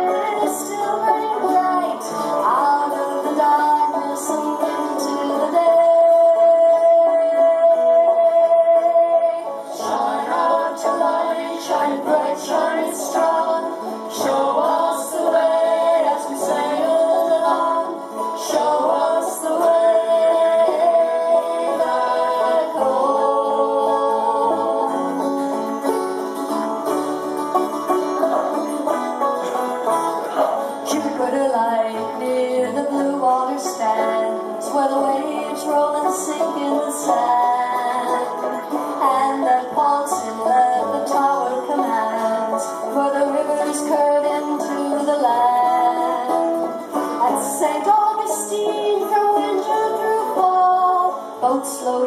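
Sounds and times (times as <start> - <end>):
mandolin picking melody: 0.0 - 52.0
strummed acoustic guitar: 0.0 - 52.0.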